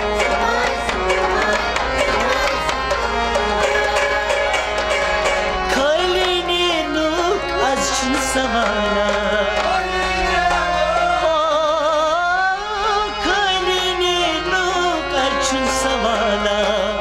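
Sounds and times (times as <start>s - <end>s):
man singing with vibrato: 0.0s - 17.0s
percussion: 0.0s - 17.0s
plucked string instrument: 0.0s - 17.0s.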